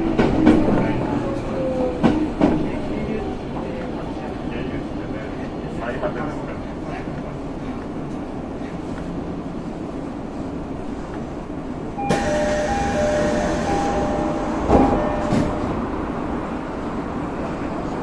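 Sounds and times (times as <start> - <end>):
train running from inside: 0.0 - 18.0.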